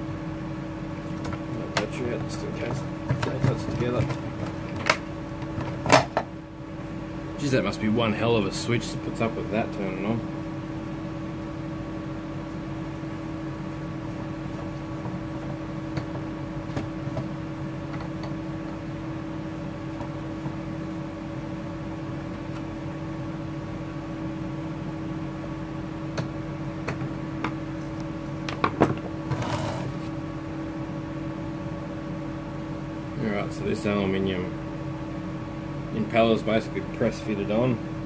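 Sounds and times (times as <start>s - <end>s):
vacuum motor humming: 0.0s - 38.0s.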